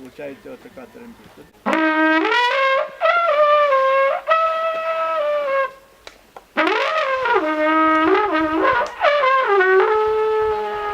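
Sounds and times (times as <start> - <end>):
long wooden horn blowing: 0.0 - 6.0, 6.6 - 10.9.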